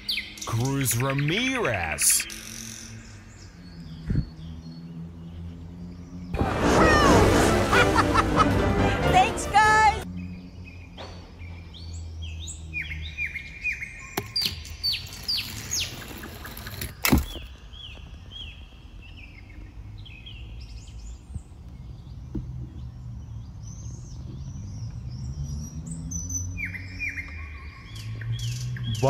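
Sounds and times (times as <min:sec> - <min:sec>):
birds chirping: 0:00.0 - 0:08.1, 0:08.8 - 0:29.0.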